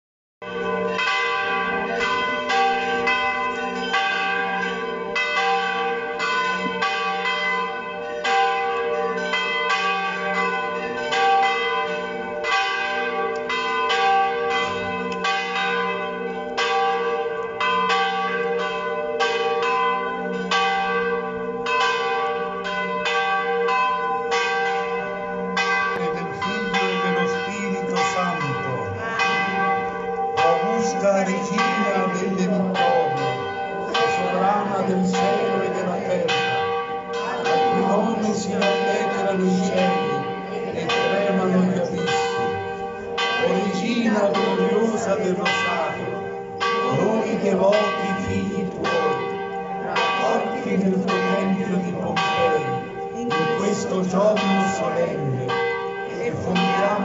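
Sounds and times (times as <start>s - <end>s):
church bells pealing: 0.4s - 57.0s.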